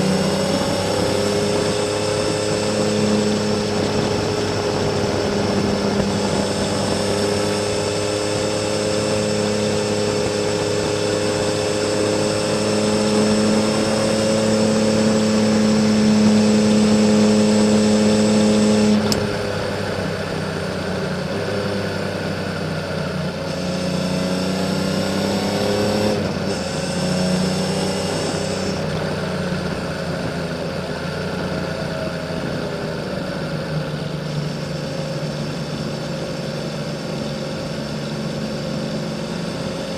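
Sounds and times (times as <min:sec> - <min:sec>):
motorcycle engine pulling on a climb: 0:00.0 - 0:20.7, 0:21.3 - 0:39.9.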